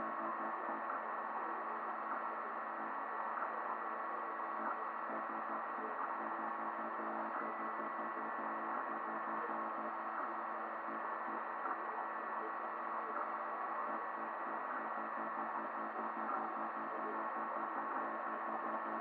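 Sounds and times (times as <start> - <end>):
multi-tone hum: 0.0 - 19.0.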